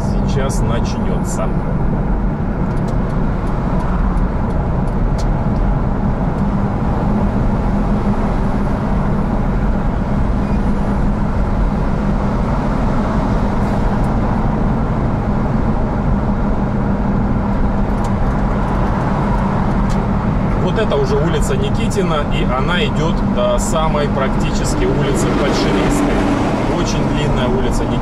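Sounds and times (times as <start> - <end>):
car engine and tyre noise: 0.0 - 28.0
constant low hum: 0.0 - 28.0.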